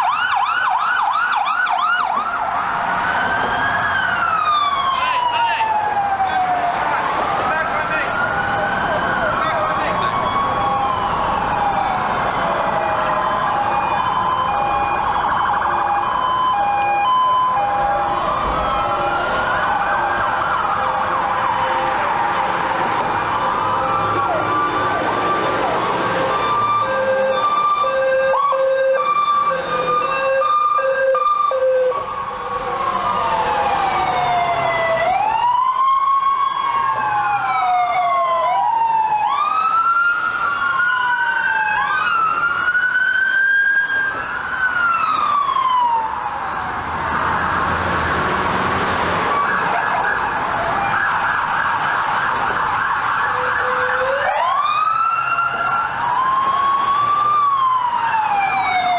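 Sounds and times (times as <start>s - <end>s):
fast yelp siren: 0.0s - 47.9s, 49.3s - 58.9s
wailing sirens: 0.0s - 58.9s.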